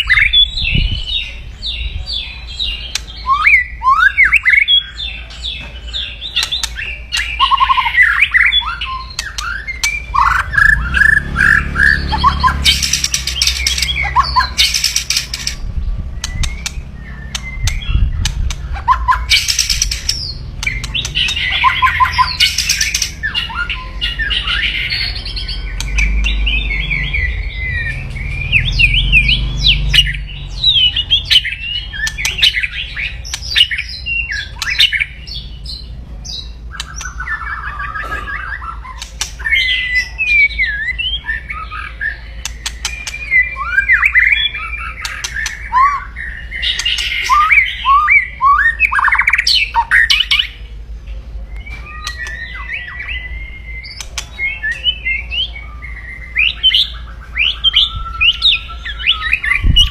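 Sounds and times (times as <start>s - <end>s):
songbird singing harshly: 0.0s - 50.7s, 51.5s - 59.9s.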